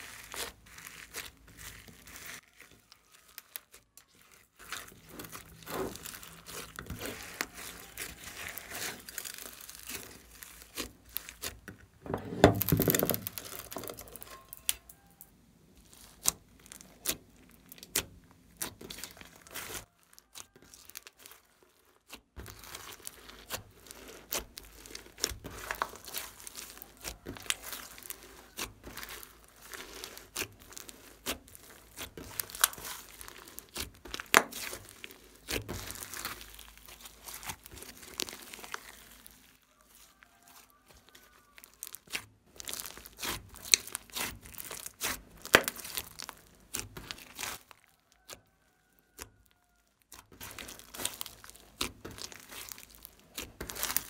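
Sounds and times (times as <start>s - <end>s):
slime squelching and crackling: 0.0s - 54.0s.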